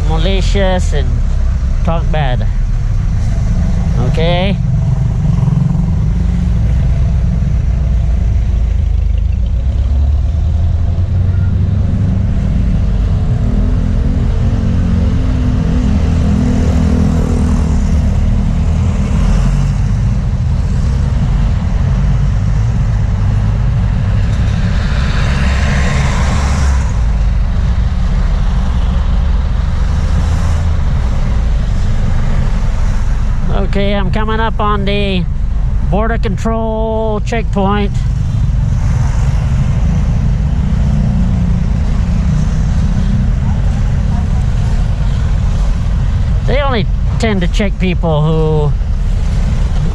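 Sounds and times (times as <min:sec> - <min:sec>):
low traffic rumble: 0:00.0 - 0:49.9
vehicles driving past: 0:00.0 - 0:49.9.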